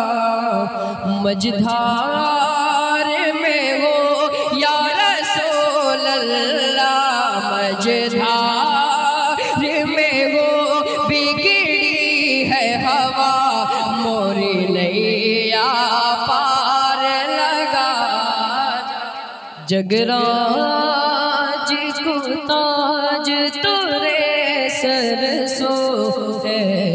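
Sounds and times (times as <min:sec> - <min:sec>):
man singing unaccompanied: 0:00.0 - 0:18.8, 0:19.6 - 0:26.9.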